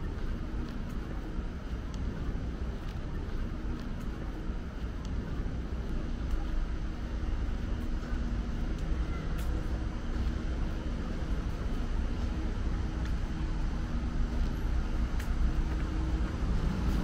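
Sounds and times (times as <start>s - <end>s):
city traffic rumble: 0.0s - 17.0s
faint engine hum: 0.0s - 17.0s.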